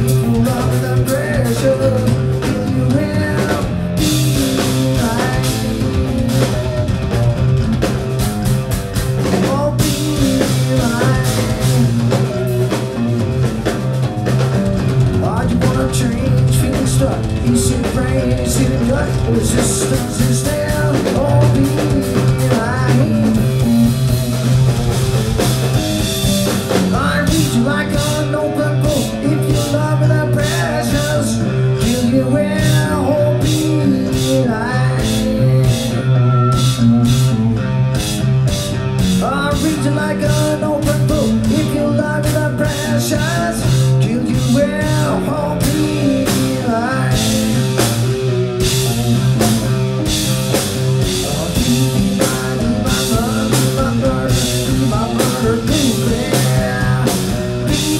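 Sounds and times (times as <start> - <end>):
bass guitar: 0.0 - 57.9
drum kit: 0.0 - 57.9
electric guitars: 0.0 - 57.9.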